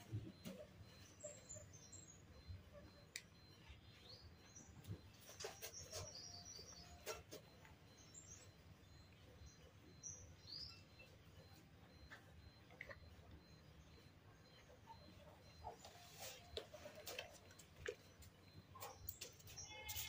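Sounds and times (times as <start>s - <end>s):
faint high-pitched chirps: 0.0s - 20.0s.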